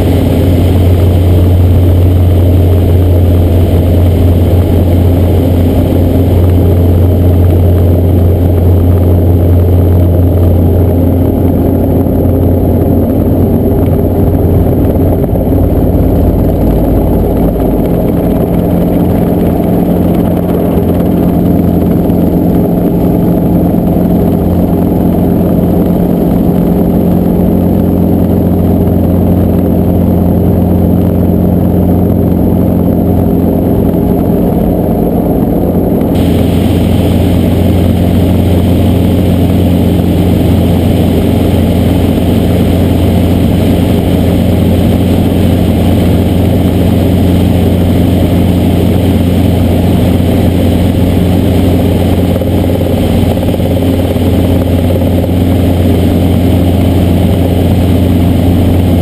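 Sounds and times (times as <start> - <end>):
helicopter engine and rotor: 0.0 - 59.0.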